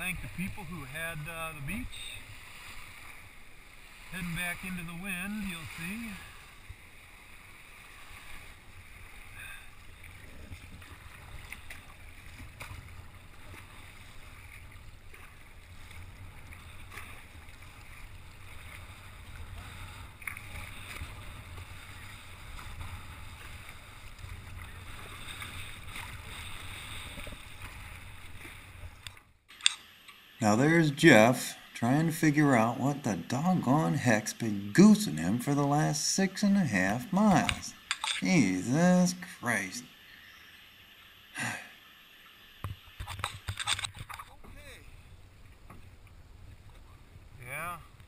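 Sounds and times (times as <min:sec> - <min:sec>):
water splashing against kayak: 0:00.0 - 0:48.0.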